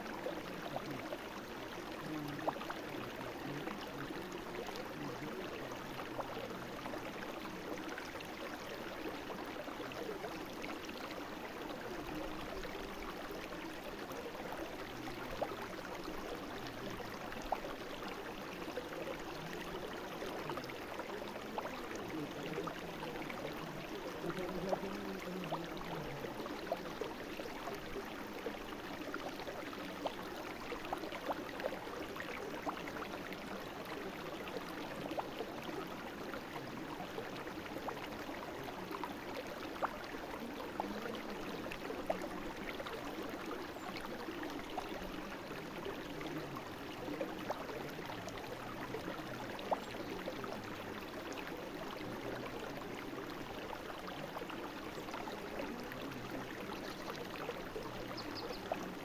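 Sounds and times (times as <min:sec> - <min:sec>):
brook flowing: 0:00.0 - 0:59.0.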